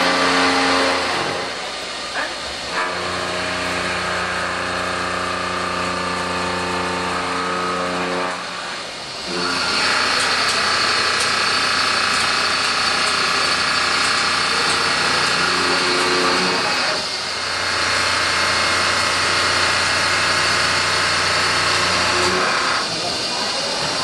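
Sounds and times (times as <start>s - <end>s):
high bright machine whine: 0.0s - 24.0s
metal-cutting machine humming: 0.0s - 24.0s.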